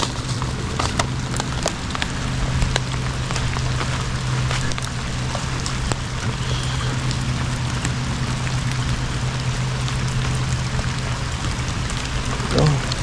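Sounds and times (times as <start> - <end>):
hard rain falling: 0.0 - 13.0
raindrops ticking close by: 0.0 - 13.0
steady low hum: 0.0 - 13.0.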